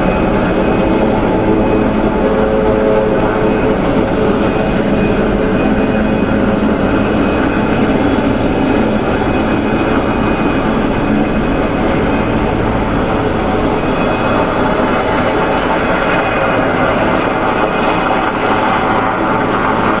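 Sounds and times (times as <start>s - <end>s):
helicopter drone: 0.0s - 20.0s.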